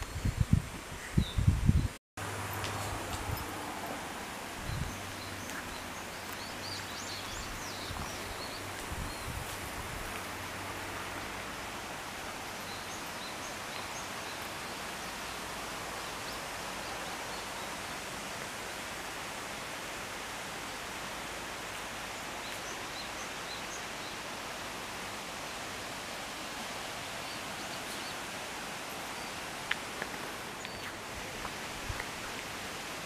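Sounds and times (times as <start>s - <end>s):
small birds chirping faintly: 0.0s - 18.8s, 19.6s - 33.0s
outdoor background hiss: 0.0s - 33.0s.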